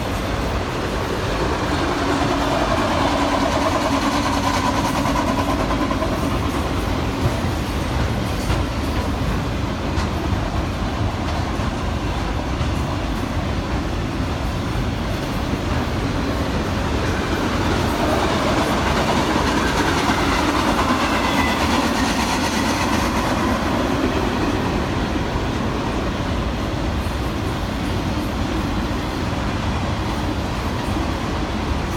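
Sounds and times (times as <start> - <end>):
train wheels on rails: 0.0 - 31.9.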